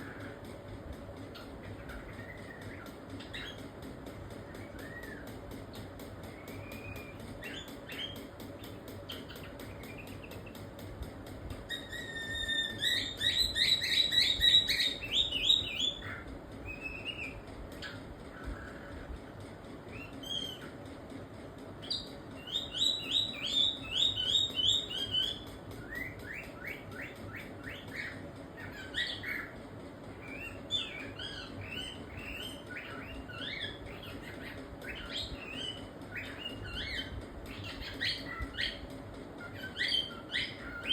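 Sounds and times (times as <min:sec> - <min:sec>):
cockatiel chirping: 0:01.3 - 0:03.7, 0:04.5 - 0:10.7, 0:11.7 - 0:19.0, 0:19.9 - 0:20.8, 0:21.8 - 0:29.5, 0:30.1 - 0:38.8, 0:39.4 - 0:40.9.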